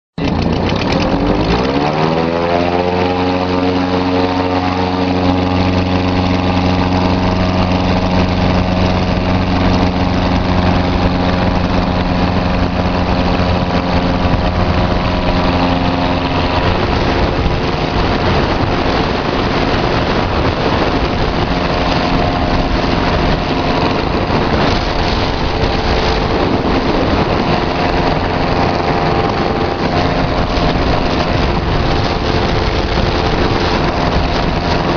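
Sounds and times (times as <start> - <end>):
ultralight engine and propeller: 0.1 - 34.9.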